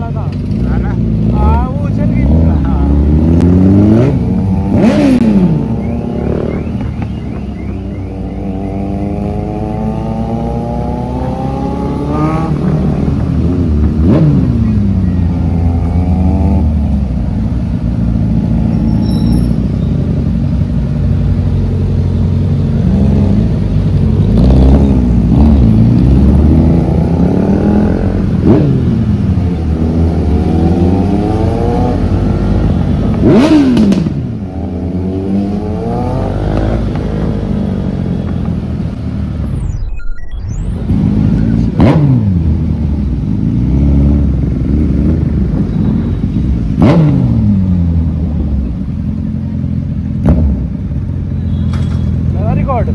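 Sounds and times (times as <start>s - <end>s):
motorcycle engines revving: 0.0s - 39.7s, 40.6s - 52.9s.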